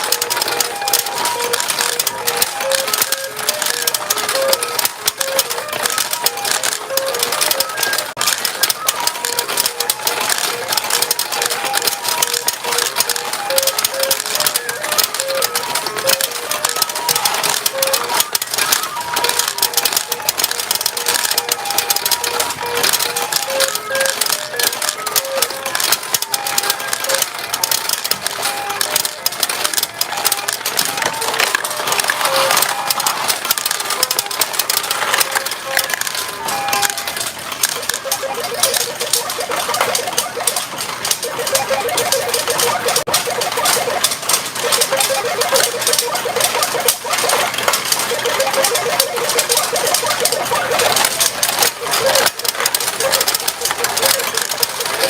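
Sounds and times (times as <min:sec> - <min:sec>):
steel balls clattering: 0:00.0 - 0:55.0.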